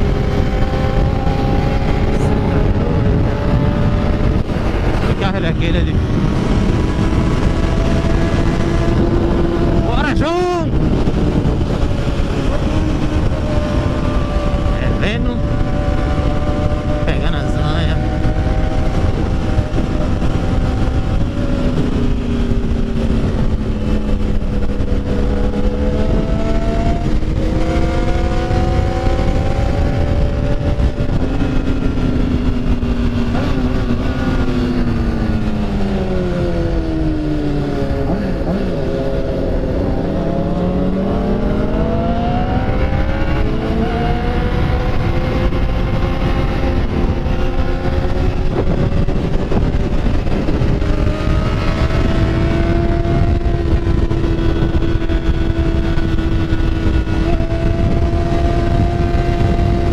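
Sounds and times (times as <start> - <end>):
motorcycle engine revving: 0.0 - 59.9
wind rumble on microphone: 0.0 - 59.9.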